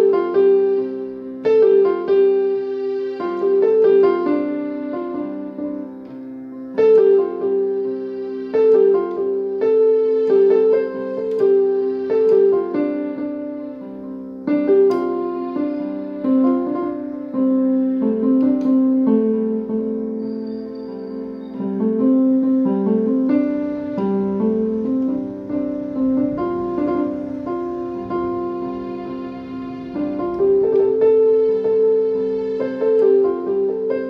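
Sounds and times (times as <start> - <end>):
slow gentle piano music: 0.0 - 34.0.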